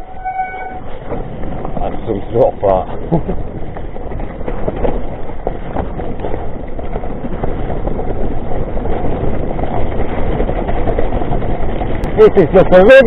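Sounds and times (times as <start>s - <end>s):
bike tyres through water and mud: 0.0s - 13.0s
small rattles and knocks: 0.0s - 13.0s.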